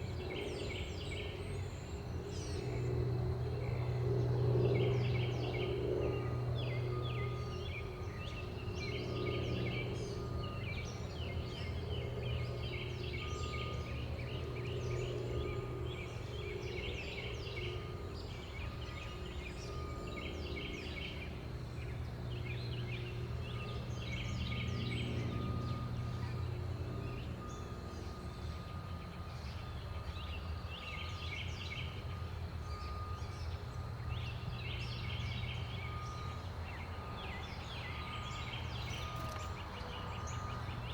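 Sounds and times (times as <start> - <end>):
steady low hum: 0.0 - 40.9
small birds chirping: 4.7 - 40.9.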